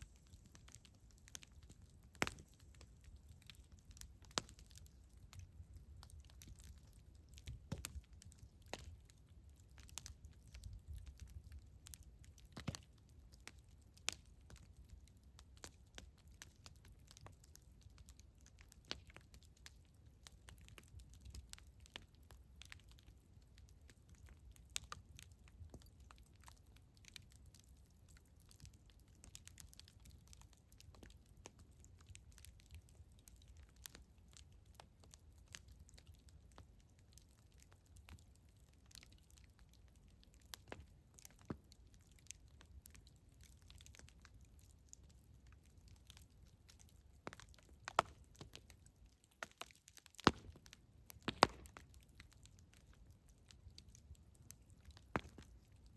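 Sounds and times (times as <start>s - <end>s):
burning wood popping: 0.0s - 55.9s
campfire crackling: 0.0s - 55.9s.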